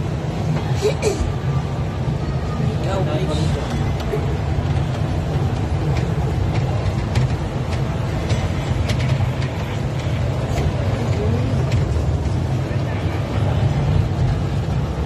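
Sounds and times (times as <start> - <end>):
ride train rumbling: 0.0 - 15.0.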